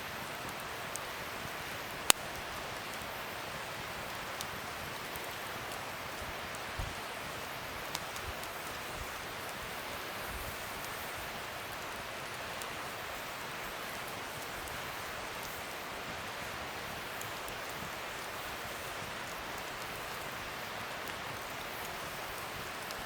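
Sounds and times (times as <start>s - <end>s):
fire crackling and popping: 0.0s - 23.0s
fire hissing: 0.0s - 23.0s.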